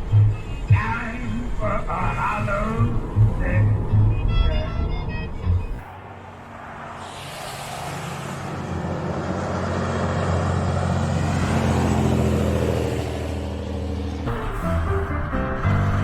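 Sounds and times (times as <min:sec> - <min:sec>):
vehicle engine and tyre noise: 0:00.0 - 0:16.0.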